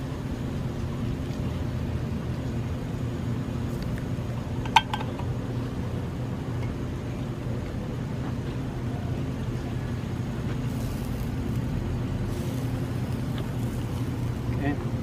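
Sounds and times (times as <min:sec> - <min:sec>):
gas burner rumble: 0:00.0 - 0:15.0.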